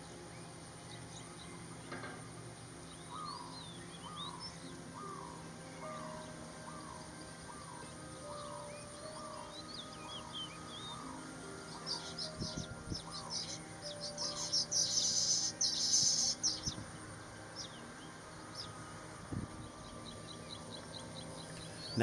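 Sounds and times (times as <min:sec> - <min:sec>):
birds chirping and calling: 0:02.9 - 0:22.0.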